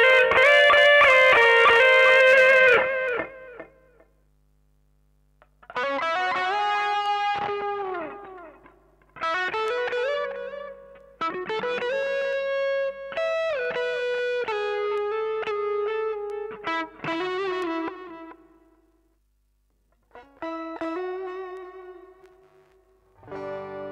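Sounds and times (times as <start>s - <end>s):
overdriven electric guitar phrases: 0.0s - 4.2s, 5.4s - 19.0s, 19.9s - 23.9s.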